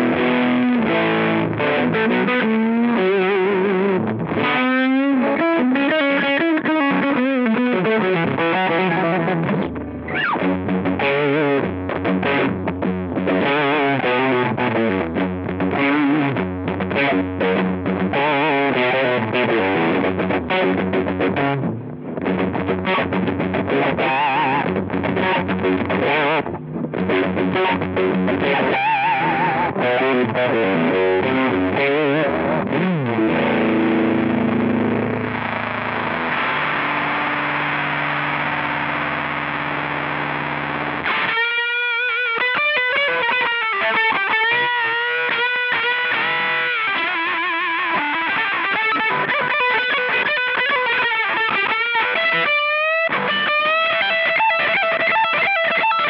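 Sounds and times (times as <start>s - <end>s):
fuzzy electric guitar: 0.0s - 56.0s.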